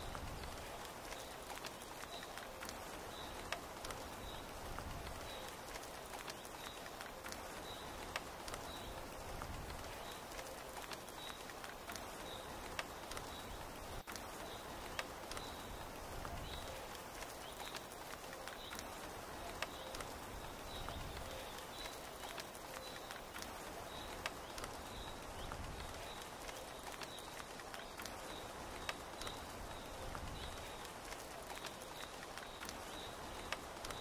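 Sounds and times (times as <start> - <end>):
rain falling on tent canvas: 0.0 - 34.0.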